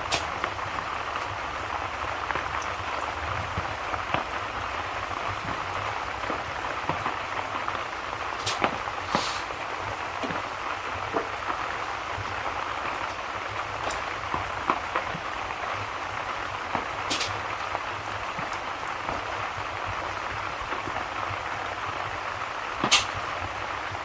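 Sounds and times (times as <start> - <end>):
fireplace crackling: 0.0 - 24.0
steady rain: 0.0 - 24.0.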